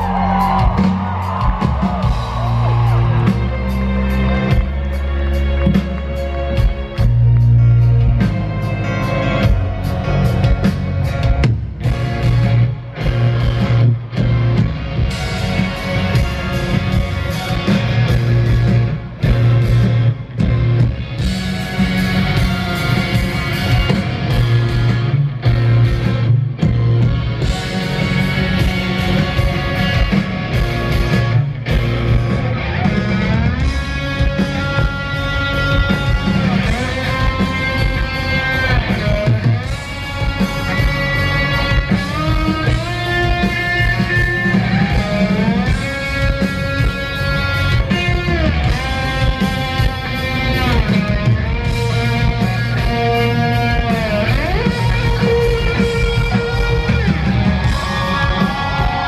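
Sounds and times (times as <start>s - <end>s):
live rock band playing: 0.0s - 59.0s
electric guitar bending notes: 3.0s - 59.0s.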